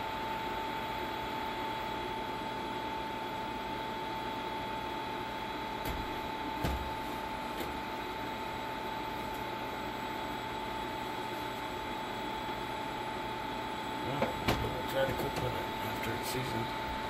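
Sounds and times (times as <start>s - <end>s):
cooling fan hissing: 0.0s - 17.0s
steady high whine: 0.0s - 17.0s.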